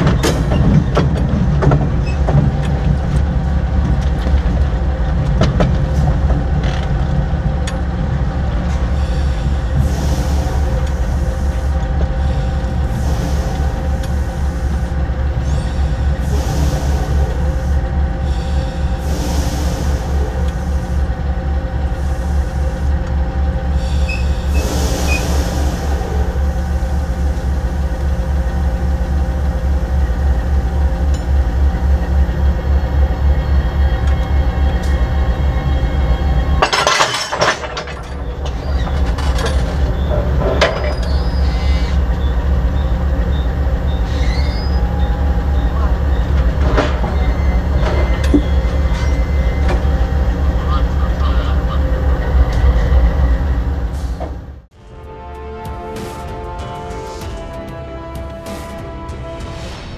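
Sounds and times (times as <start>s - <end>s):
diesel locomotive rumbling: 0.0s - 59.9s.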